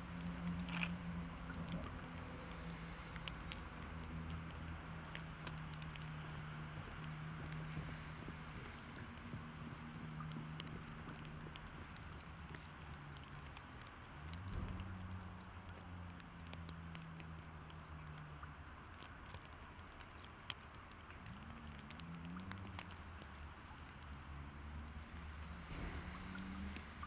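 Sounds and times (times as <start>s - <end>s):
wet snow ticking: 0.0s - 27.0s.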